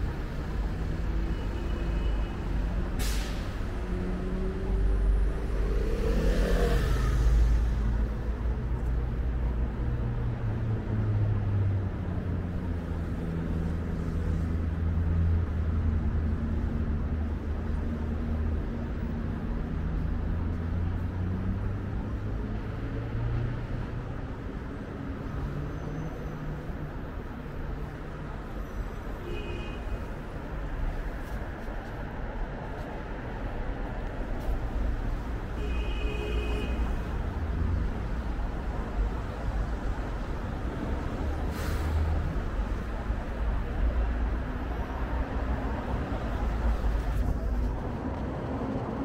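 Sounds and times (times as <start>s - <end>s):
traffic engine hum: 0.0s - 49.0s.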